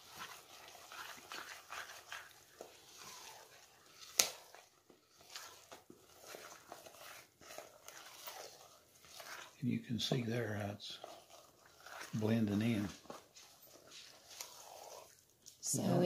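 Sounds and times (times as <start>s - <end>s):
spoon stirring batter in bowl: 0.0s - 15.8s.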